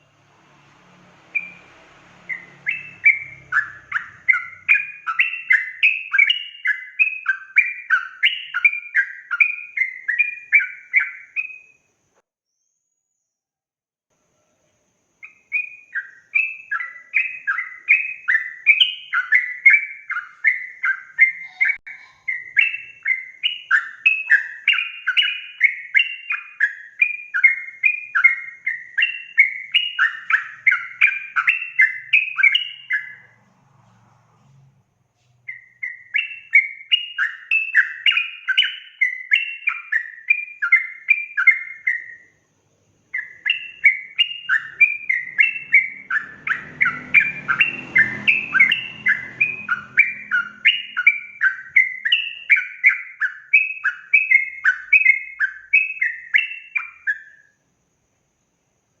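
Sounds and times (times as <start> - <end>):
bird singing sliding notes: 0.0 - 11.8, 15.2 - 42.3, 42.9 - 57.5.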